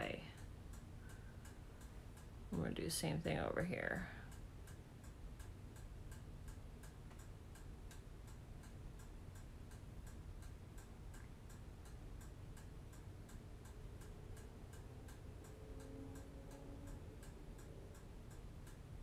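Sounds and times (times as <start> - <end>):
faint steady ticking: 0.0 - 19.0
low room hum: 0.0 - 19.0.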